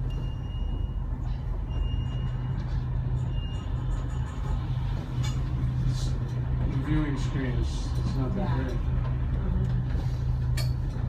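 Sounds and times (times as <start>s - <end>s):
cable car hum and rumble: 0.0s - 11.0s.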